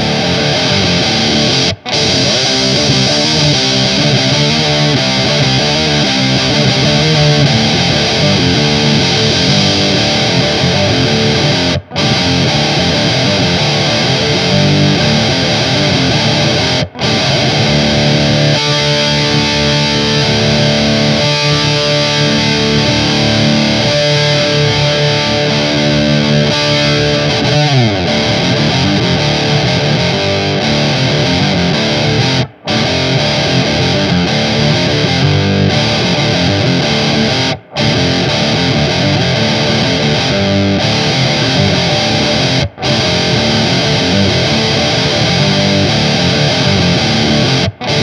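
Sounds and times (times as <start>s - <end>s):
distorted electric guitar riff: 0.0s - 48.0s
guitar note sliding down: 0.0s - 48.0s.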